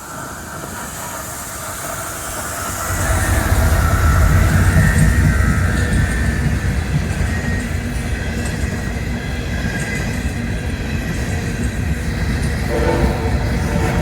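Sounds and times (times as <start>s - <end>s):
train cars rumbling on rails: 0.0s - 14.0s.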